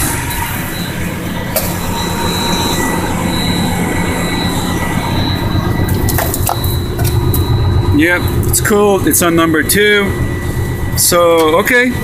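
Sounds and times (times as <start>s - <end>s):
diesel engine idling: 0.0s - 12.0s
faint high whine: 0.0s - 12.0s.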